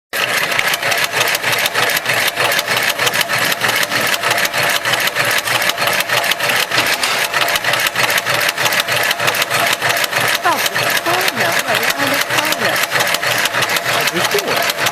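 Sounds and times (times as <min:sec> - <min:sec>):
sewing machine clattering: 0:00.2 - 0:14.9.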